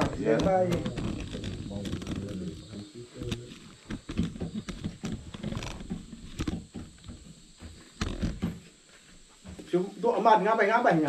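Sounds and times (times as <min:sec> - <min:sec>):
irregular knocks and thumps: 0:00.0 - 0:09.7.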